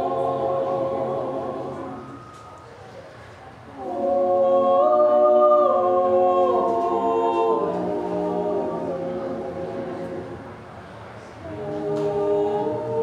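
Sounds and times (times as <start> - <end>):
choir singing sustained chords: 0.0 - 2.7, 3.7 - 13.0.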